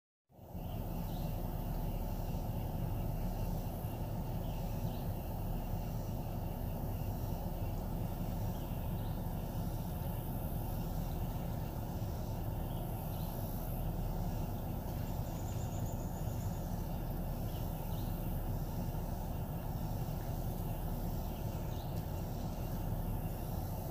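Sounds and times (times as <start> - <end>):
steady low rumble: 0.3 - 23.9
faint high chirps: 0.4 - 23.9.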